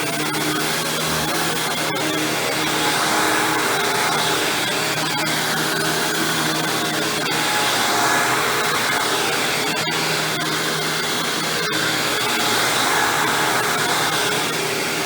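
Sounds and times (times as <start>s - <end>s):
upright vacuum cleaner running: 1.1s - 15.0s.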